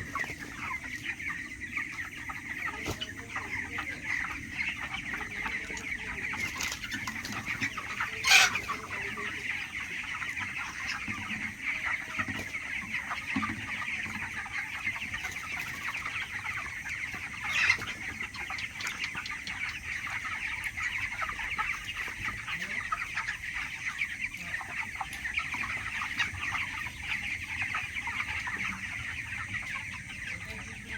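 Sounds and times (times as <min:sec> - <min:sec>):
chickens cheeping and clucking: 0:00.0 - 0:30.9.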